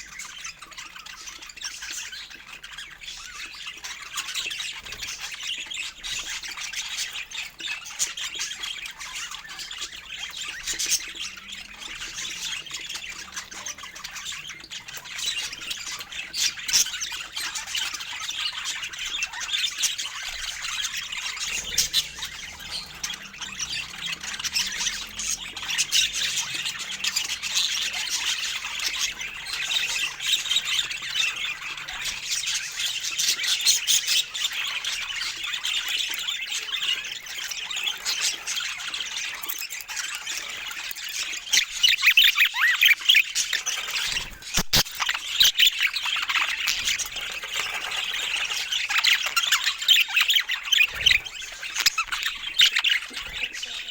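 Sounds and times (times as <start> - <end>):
budgies chattering and squawking: 0.0 - 53.9.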